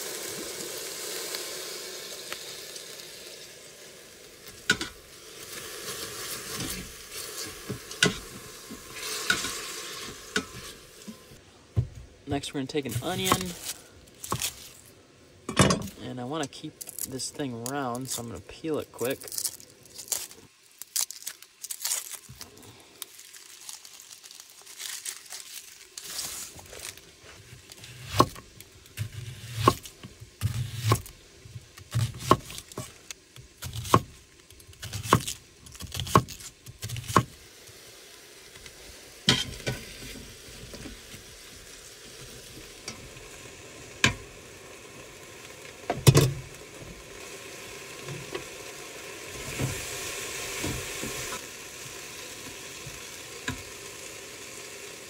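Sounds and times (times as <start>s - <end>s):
pot sizzling: 0.0s - 55.0s.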